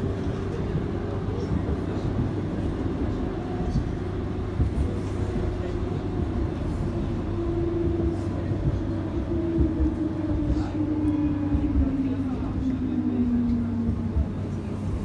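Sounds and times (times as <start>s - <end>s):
tram wheels rumbling on rails: 0.0s - 15.0s.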